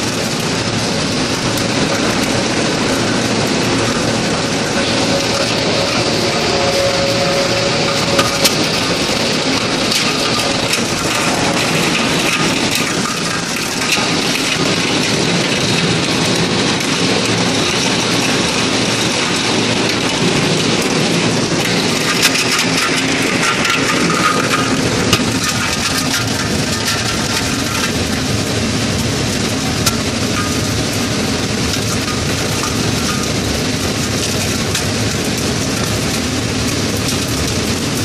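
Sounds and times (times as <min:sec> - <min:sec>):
machinery clattering: 0:00.0 - 0:38.0.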